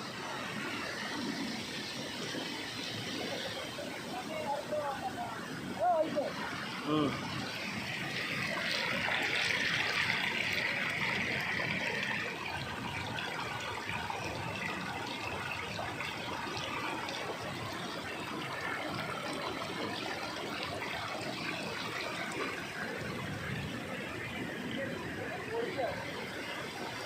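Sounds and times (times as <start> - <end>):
river water rushing over dam: 0.0 - 27.0.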